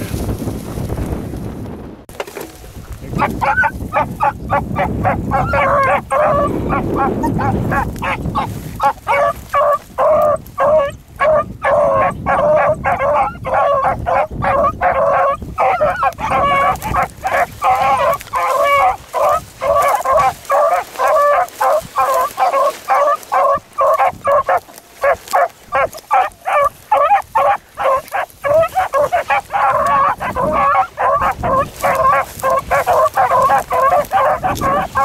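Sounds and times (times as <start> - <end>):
hounds baying and barking: 3.0 - 35.0.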